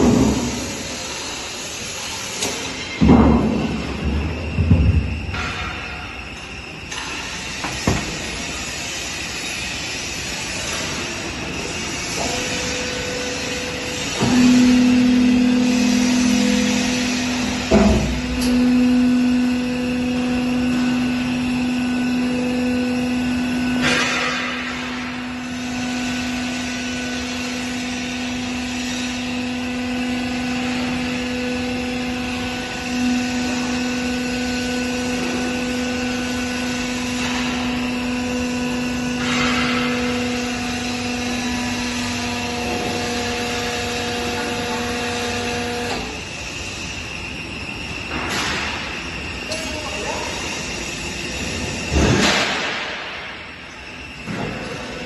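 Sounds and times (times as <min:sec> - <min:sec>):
hydraulic power unit hum: 0:00.0 - 0:55.0.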